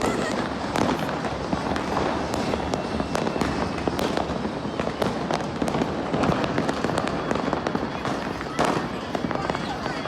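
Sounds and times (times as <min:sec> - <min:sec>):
distant fireworks rumble: 0:00.0 - 0:10.0
fireworks cracking and popping: 0:00.0 - 0:10.0.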